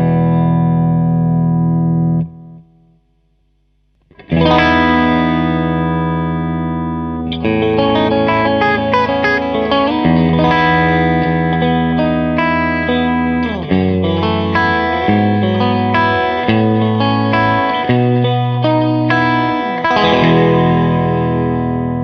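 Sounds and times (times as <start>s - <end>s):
overdriven electric guitar: 0.0s - 22.0s.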